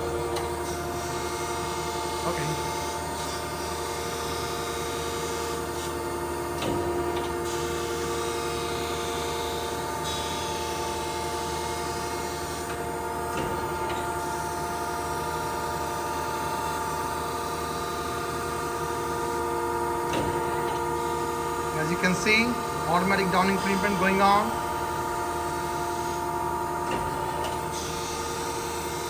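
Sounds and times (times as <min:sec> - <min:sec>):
grinder machine humming: 0:00.0 - 0:29.0.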